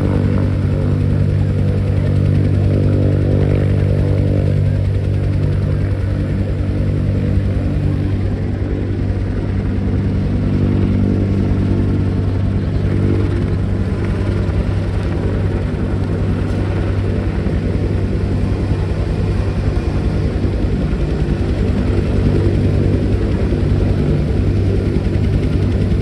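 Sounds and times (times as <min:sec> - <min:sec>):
helicopter engine and rotor: 0:00.0 - 0:26.0.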